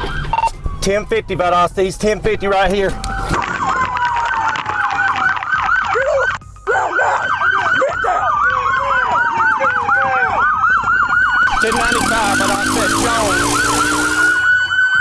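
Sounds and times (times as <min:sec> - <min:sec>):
police siren yelp: 0:00.0 - 0:01.5, 0:02.9 - 0:15.0
police siren wail: 0:00.0 - 0:01.9, 0:02.9 - 0:15.0.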